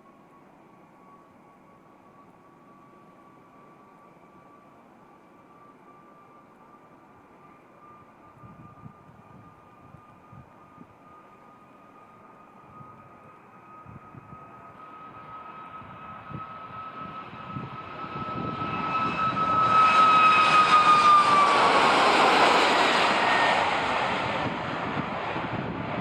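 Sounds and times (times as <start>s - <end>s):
jet passing with whine and roar: 0.0s - 26.0s.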